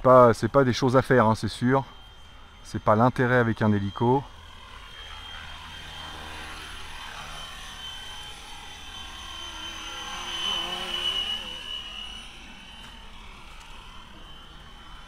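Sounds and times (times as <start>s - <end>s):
rc helicopter rotor whine: 0.0s - 15.0s.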